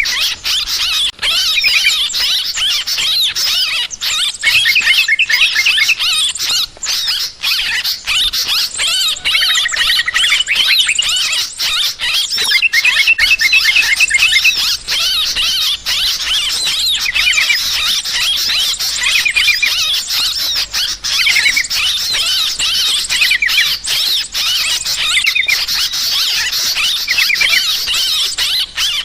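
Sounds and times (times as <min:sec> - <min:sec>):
birds chirping and warbling: 0:00.0 - 0:29.0.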